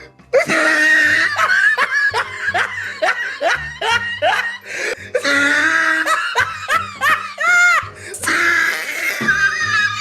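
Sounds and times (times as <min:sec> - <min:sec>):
background music with low beat: 0:00.0 - 0:09.9.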